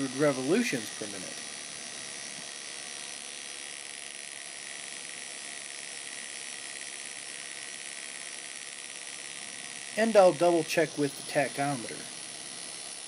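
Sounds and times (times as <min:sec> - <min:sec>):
rotary tool whirring: 0:00.0 - 0:13.0.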